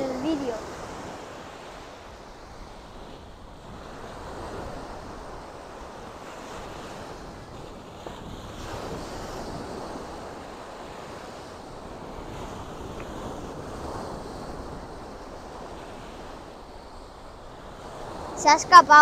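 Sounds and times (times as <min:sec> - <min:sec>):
small waves breaking on beach: 0:00.0 - 0:19.0.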